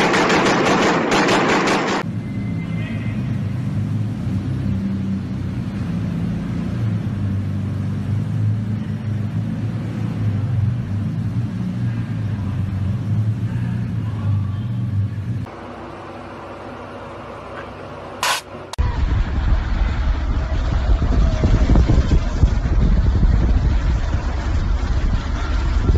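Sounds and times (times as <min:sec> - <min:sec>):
car engine rumbling at low revs: 0:02.0 - 0:25.9.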